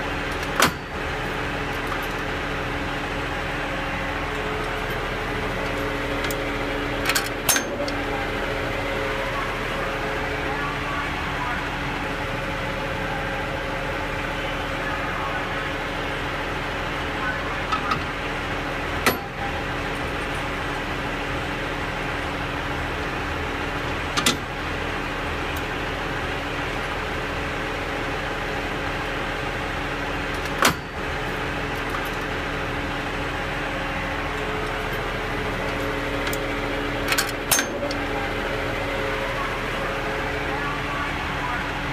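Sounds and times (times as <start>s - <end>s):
steady mechanical drone: 0.0s - 41.9s.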